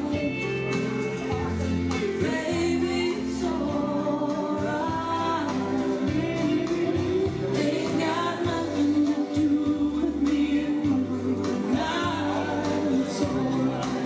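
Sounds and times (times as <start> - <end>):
country song with band: 0.0 - 14.0.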